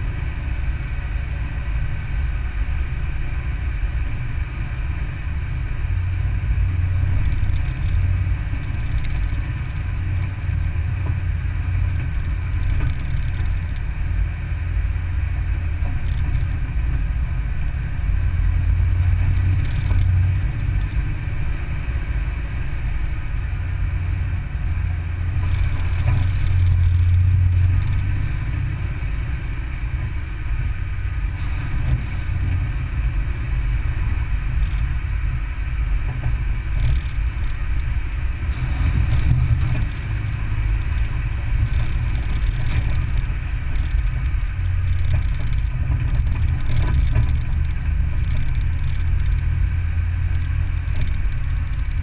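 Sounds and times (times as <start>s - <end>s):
off-road vehicle rumbling: 0.0s - 52.0s.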